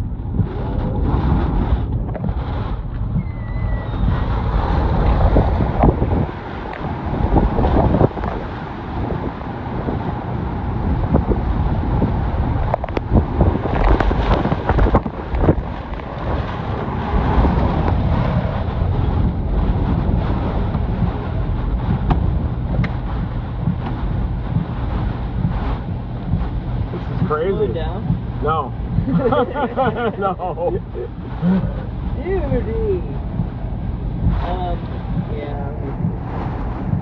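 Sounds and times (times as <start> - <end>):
strong wind buffeting microphone: 0.0 - 37.0.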